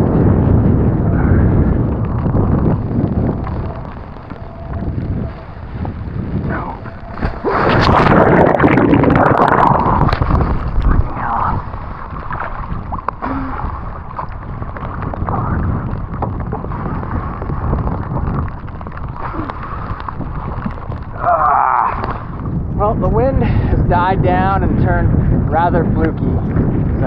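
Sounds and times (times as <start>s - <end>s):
water splashing and rushing: 0.0s - 23.4s
wind buffeting microphone: 0.0s - 27.0s.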